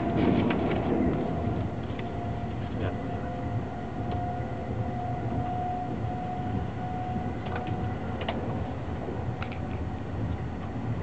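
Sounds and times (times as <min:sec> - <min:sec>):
train interior rumble: 0:00.0 - 0:11.0.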